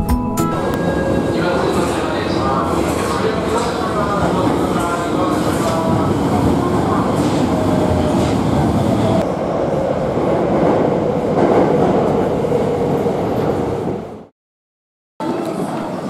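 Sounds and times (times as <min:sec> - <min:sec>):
subway train rumbling: 0:00.6 - 0:14.3, 0:15.2 - 0:16.0.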